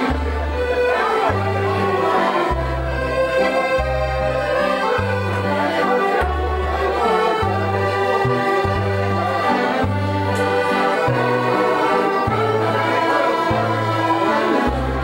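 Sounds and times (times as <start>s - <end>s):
accordion playing a dance tune: 0.0s - 15.0s.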